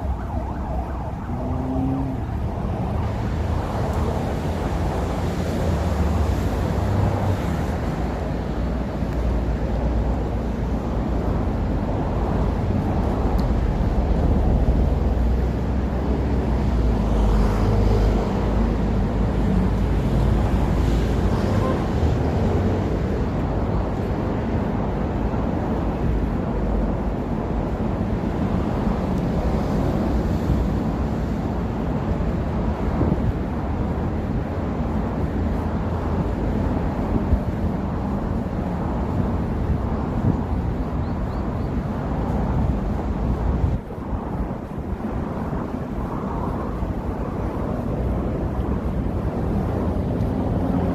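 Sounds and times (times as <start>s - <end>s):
rumble of passing vehicles: 0.0s - 50.9s.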